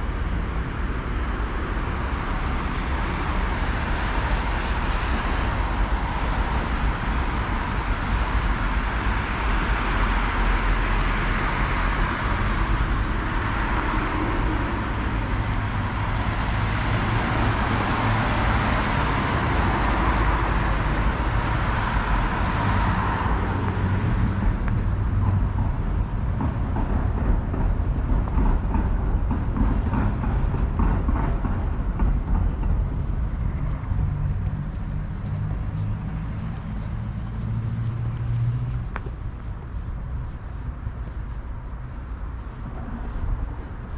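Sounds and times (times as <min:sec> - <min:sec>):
low traffic rumble: 0:00.0 - 0:43.9.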